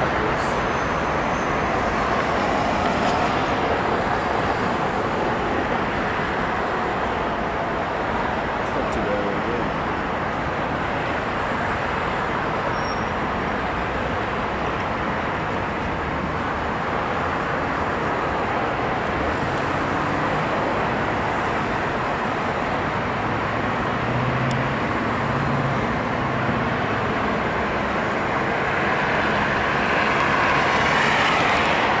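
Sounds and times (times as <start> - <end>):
busy road traffic noise: 0.0 - 32.0.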